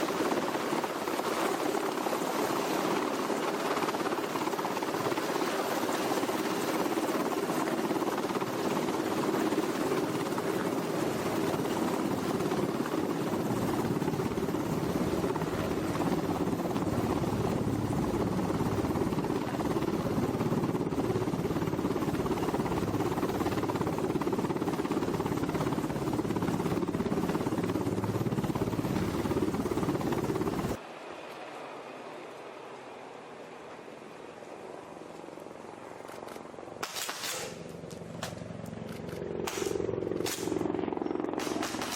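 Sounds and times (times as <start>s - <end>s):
helicopter rotor drone: 0.0s - 30.8s, 31.6s - 41.9s.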